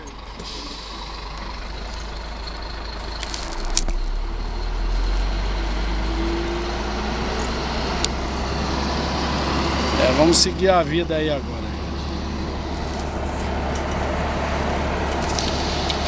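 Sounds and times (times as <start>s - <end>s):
truck engine rumble: 0.0s - 16.0s.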